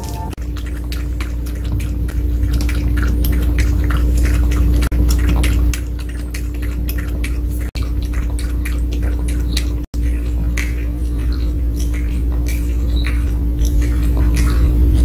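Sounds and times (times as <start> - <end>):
dog lapping water: 0.0 - 15.0.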